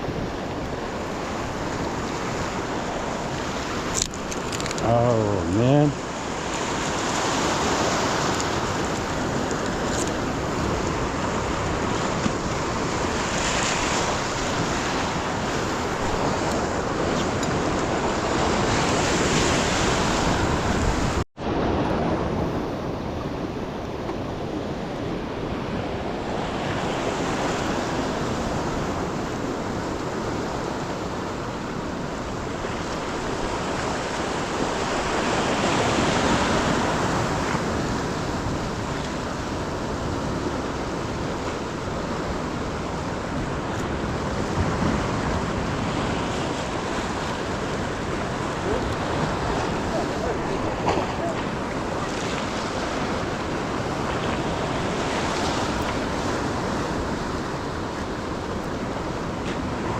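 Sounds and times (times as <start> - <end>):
ocean surf breaking: 0.0 - 59.9
wind on microphone: 0.0 - 59.9.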